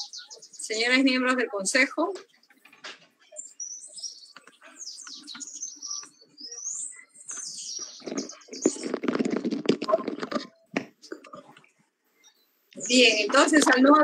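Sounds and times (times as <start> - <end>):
small birds chirping and twittering: 0.0 - 14.0.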